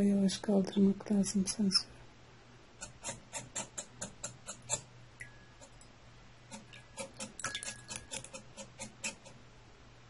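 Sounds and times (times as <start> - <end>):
faint steady whine: 0.0 - 10.0.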